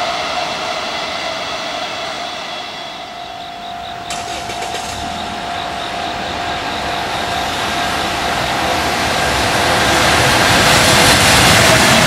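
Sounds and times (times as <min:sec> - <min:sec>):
freight train rumbling past: 0:00.0 - 0:12.0
train whine: 0:00.0 - 0:12.0.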